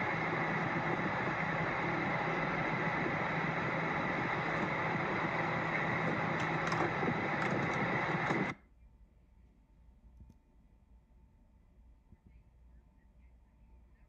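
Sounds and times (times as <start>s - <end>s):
blower noise with low hum: 0.0s - 14.0s.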